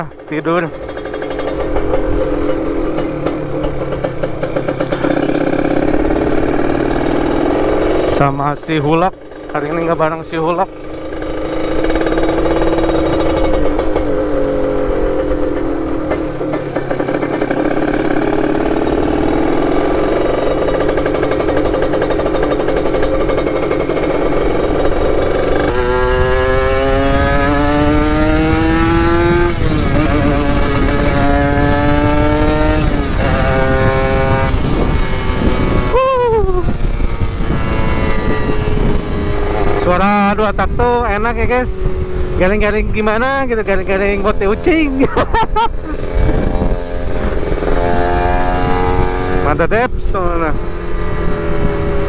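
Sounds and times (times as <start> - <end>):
two-stroke motorcycle engine: 0.0 - 52.0.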